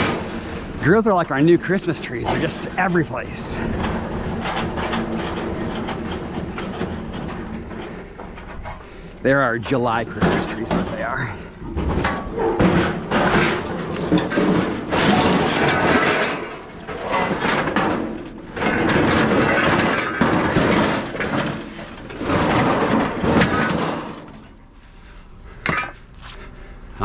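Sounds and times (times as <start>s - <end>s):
metal clattering and scraping: 0.0s - 26.9s.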